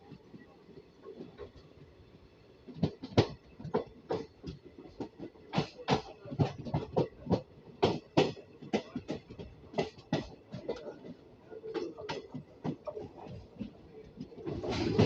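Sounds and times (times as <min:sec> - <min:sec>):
train wheels clacking over rail joints: 0:00.1 - 0:15.0.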